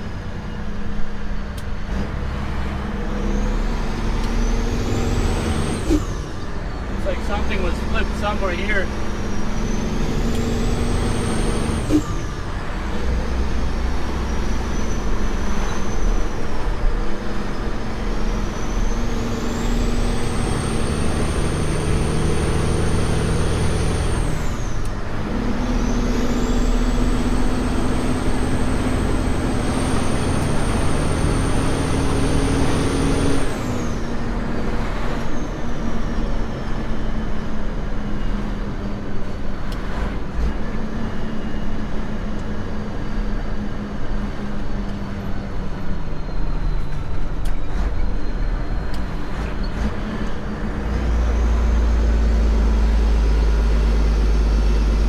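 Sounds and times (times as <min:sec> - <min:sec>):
truck diesel engine pulling: 0:00.0 - 0:55.0.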